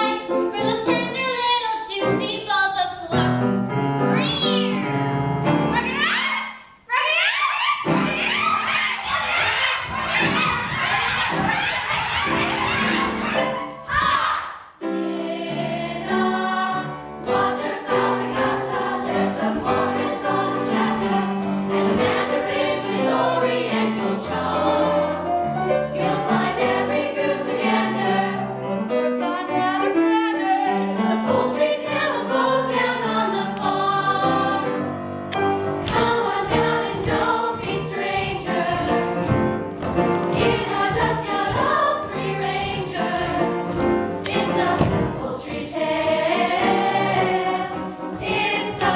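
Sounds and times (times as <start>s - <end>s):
group singing in harmony: 7.9s - 48.9s.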